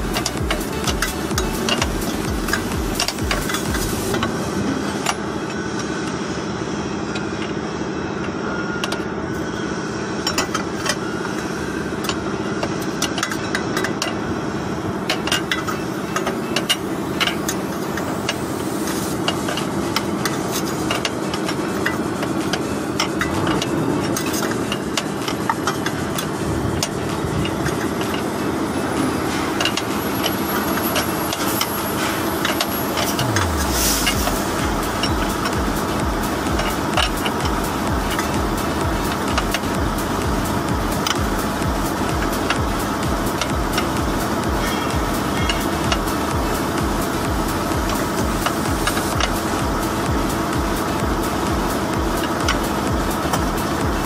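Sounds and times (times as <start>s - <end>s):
engine-like hum: 0.0s - 54.0s.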